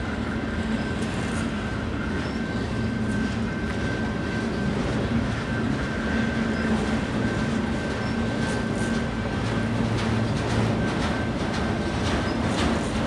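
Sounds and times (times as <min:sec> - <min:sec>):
train wheels rattling on rail: 0:00.0 - 0:13.0.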